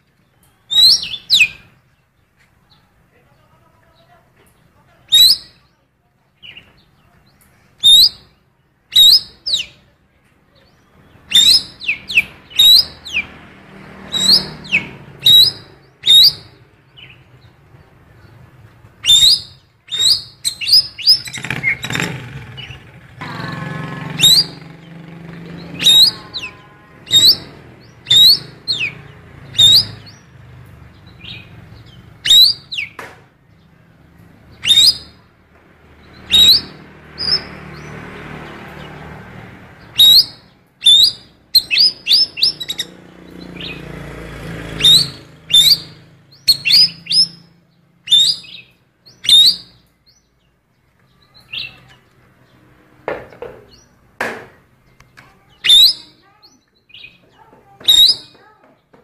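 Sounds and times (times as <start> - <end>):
songbird chirping: 0.0 - 59.0.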